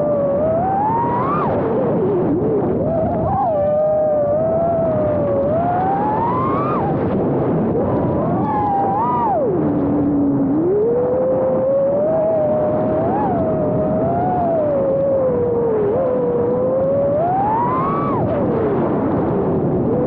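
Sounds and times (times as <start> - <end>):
drone motors whining: 0.0 - 20.0
propeller and wind noise: 0.0 - 20.0.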